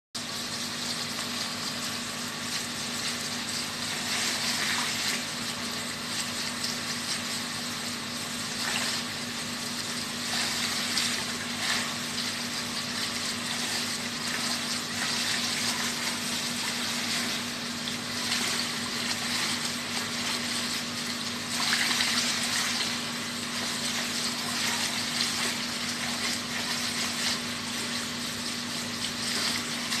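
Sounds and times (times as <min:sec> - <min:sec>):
low pump motor hum: 0:00.2 - 0:30.0
water running and splashing: 0:00.2 - 0:30.0.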